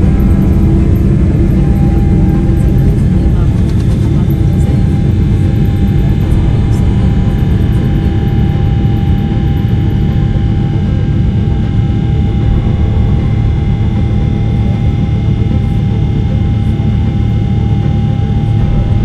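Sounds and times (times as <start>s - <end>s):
airliner engines rumbling: 0.0s - 19.0s.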